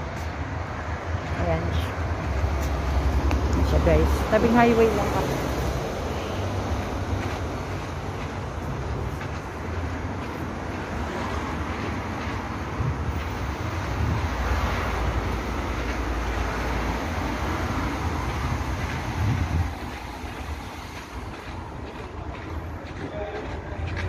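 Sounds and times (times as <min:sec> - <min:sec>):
highway traffic rumble: 0:00.0 - 0:24.0
vehicle passing: 0:00.0 - 0:24.0.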